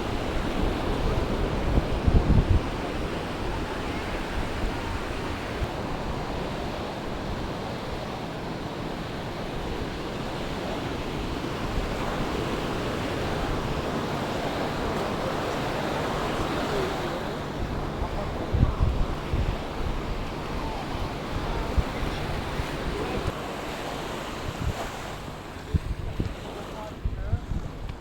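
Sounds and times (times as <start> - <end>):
sea waves washing onto beach: 0.0 - 28.0
wind on microphone: 0.0 - 28.0.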